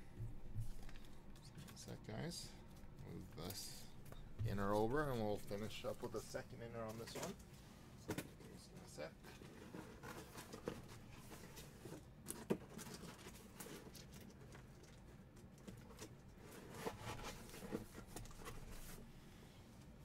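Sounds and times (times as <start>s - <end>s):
card packs and boxes handled: 0.2s - 19.1s.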